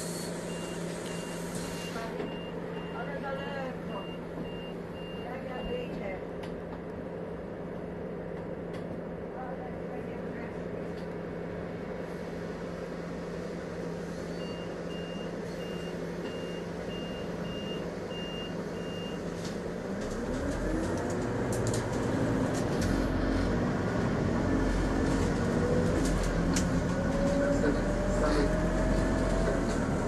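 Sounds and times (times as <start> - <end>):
bus engine accelerating: 0.0 - 5.1, 10.3 - 30.0
bus engine idling: 0.0 - 30.0.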